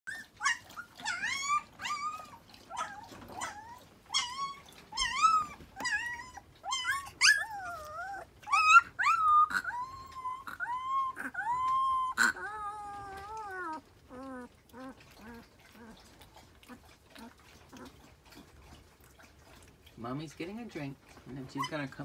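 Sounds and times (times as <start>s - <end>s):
puppies whining and crying: 0.1s - 19.8s, 21.0s - 22.0s.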